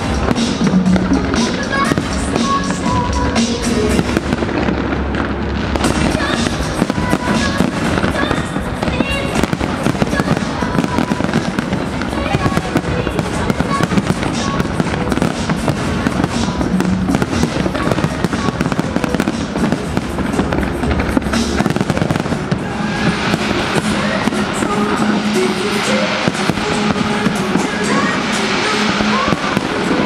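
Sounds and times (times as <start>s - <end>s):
fireworks bangs and crackle: 0.0s - 30.0s.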